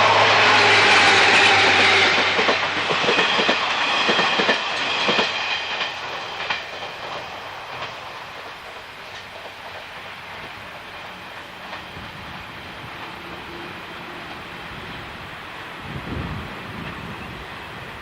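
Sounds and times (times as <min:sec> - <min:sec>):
train wheels clicking on rail joints: 0:00.4 - 0:15.2.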